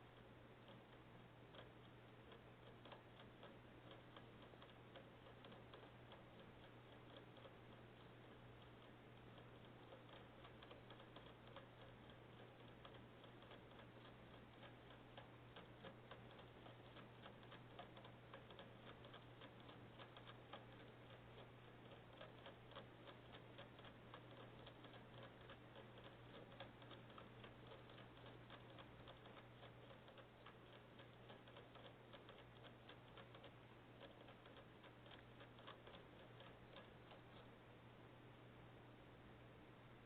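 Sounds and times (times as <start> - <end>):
faint rapid clicking: 0.0 - 40.0.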